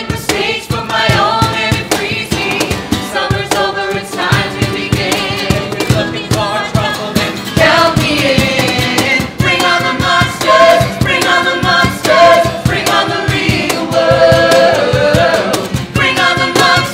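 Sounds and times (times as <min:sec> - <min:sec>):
men and women singing in harmony: 0:00.0 - 0:16.9
strummed acoustic guitar: 0:00.0 - 0:16.9.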